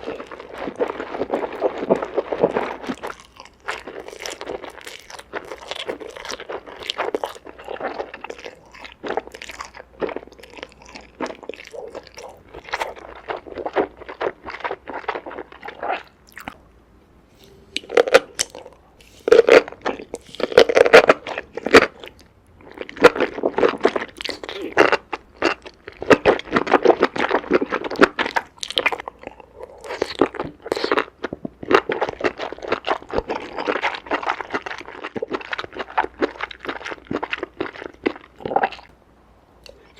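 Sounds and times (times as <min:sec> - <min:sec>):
chewing crunchy food: 0:00.0 - 0:16.7, 0:17.4 - 0:38.9.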